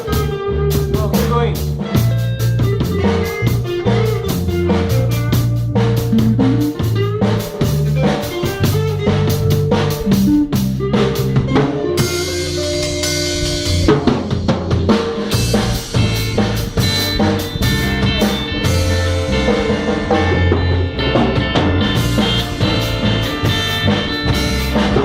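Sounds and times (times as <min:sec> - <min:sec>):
bass and guitar: 0:00.0 - 0:25.0
drum kit beat: 0:00.0 - 0:25.0
held chords: 0:00.1 - 0:25.0.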